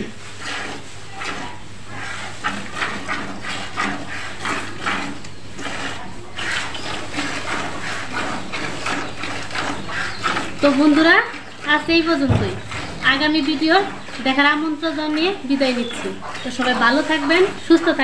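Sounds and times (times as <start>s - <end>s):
milk squirting into bucket: 0.0s - 18.0s.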